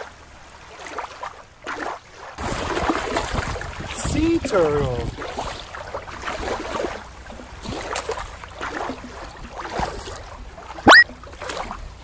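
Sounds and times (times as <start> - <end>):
small water splashes: 0.0 - 12.0
water lapping on rocky shore: 0.0 - 12.0.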